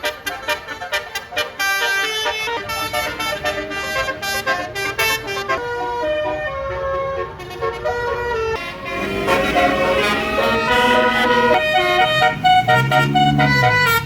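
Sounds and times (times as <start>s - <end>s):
bus horn playing a tune: 0.0s - 14.0s.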